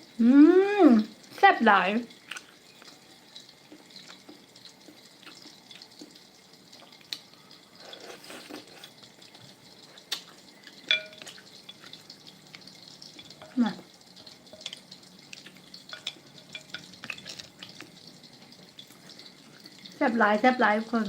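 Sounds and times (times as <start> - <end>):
chewing and handling food: 2.1 - 20.0.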